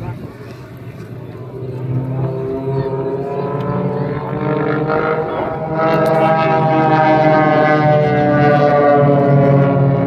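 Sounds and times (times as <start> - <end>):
aircraft engines droning overhead: 0.0 - 10.0.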